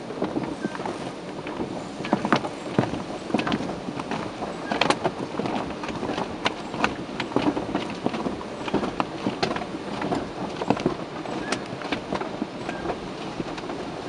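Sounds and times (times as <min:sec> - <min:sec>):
car wash brushes slapping: 0:00.0 - 0:14.0.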